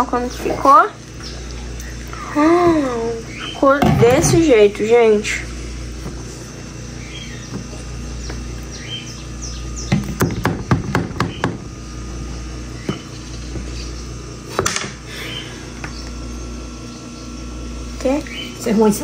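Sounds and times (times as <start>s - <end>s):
birds chirping faintly: 0.0s - 5.9s, 6.7s - 11.6s, 12.5s - 14.4s, 15.2s - 19.0s
steady low hum: 0.0s - 19.0s.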